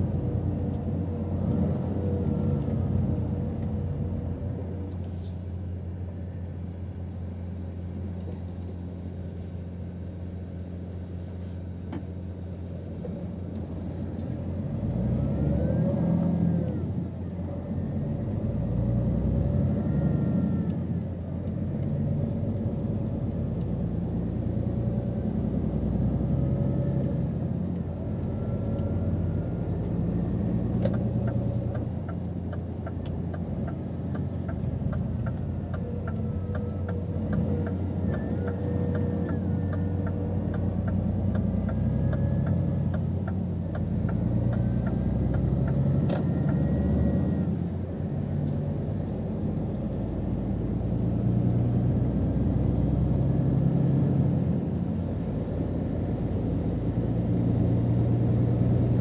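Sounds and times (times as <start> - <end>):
road rumble: 0.0 - 59.0
truck diesel engine drone: 0.0 - 59.0.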